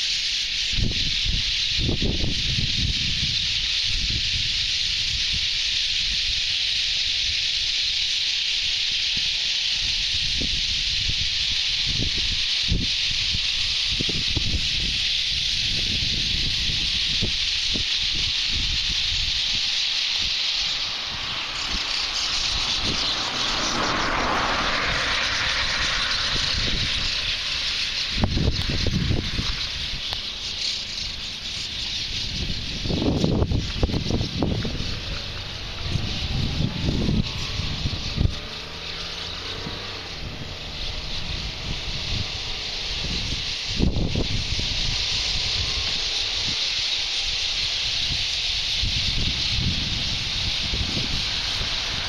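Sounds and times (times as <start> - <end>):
flock of birds calling: 0.0 - 52.0.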